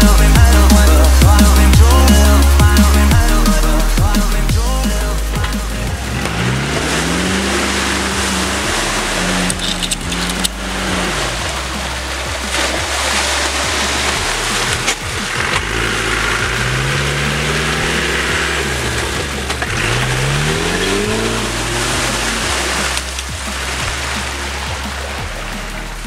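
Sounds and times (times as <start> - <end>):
electronic dance music: 0.0 - 26.0
off-road engine revving: 0.0 - 26.0.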